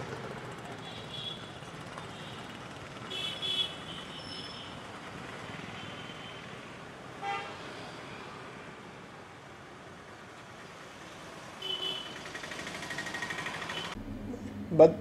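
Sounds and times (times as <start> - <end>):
traffic driving past: 0.0 - 15.0.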